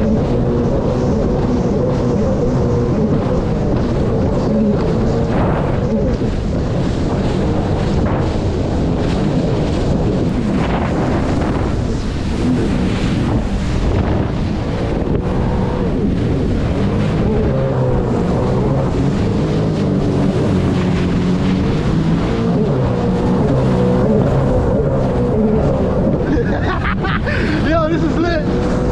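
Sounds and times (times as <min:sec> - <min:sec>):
hull slapping waves: 0:00.0 - 0:28.9
watercraft engine revving: 0:00.0 - 0:28.9
wind buffeting microphone: 0:00.0 - 0:28.9.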